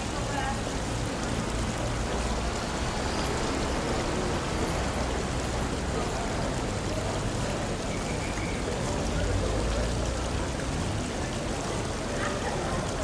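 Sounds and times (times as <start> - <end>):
water rushing and splashing: 0.0 - 13.0.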